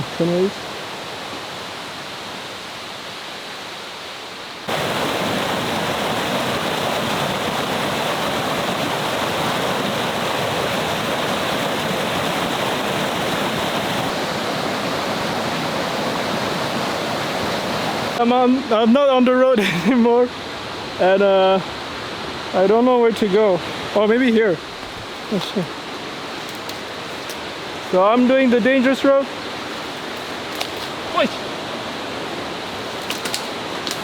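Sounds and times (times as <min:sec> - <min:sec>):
waterfall rushing: 0:04.6 - 0:34.0.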